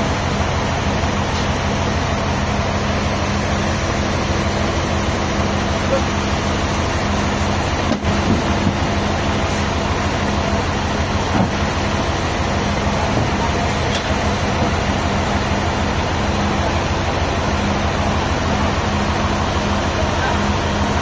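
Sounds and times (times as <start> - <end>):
heavy engine humming: 0.0 - 21.0.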